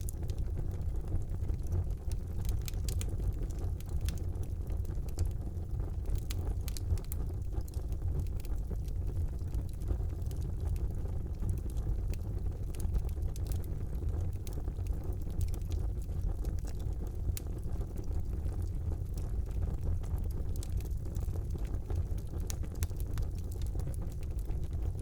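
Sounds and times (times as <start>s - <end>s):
fire crackles and snaps: 0.0s - 25.0s
low rumble of flames: 0.0s - 25.0s.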